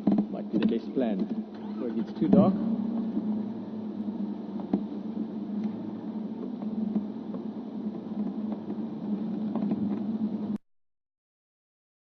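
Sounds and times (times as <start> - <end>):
vehicle engine humming: 0.0 - 10.6.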